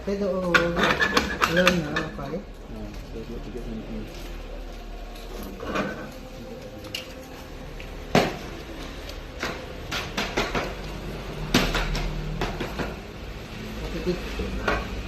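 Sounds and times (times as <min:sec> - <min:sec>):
low steady hum: 0:01.8 - 0:14.8.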